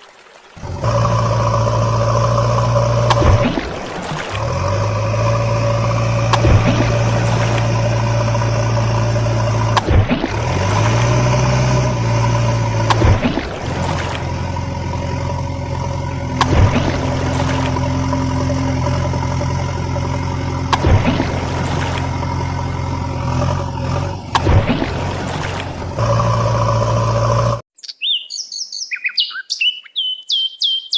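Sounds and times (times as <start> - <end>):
toy vehicle engine hum: 0.6 - 27.6.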